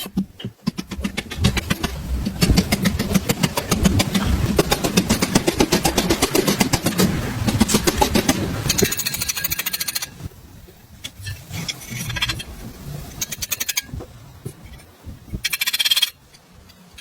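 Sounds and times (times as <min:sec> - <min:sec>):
metallic clicking and rattling: 0:00.0 - 0:10.2, 0:11.0 - 0:17.0.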